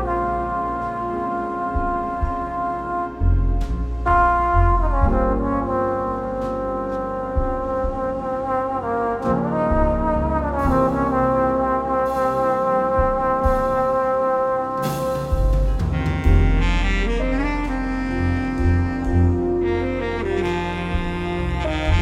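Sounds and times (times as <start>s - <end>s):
brass music with low bass: 0.0s - 22.0s.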